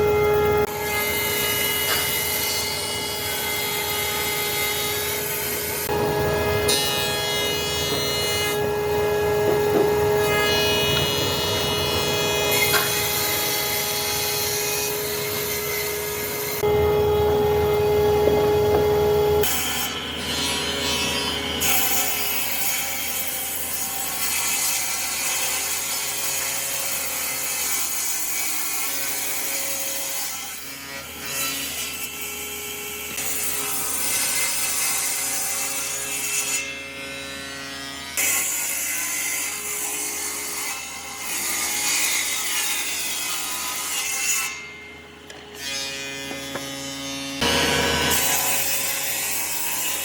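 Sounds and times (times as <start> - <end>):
wood sawing: 0.0 - 16.7, 18.2 - 50.0.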